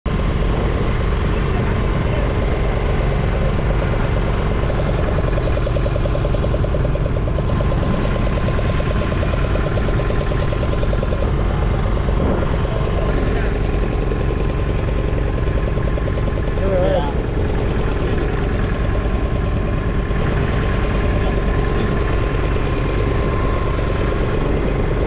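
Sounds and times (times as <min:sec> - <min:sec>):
boat motor droning: 0:00.1 - 0:25.0.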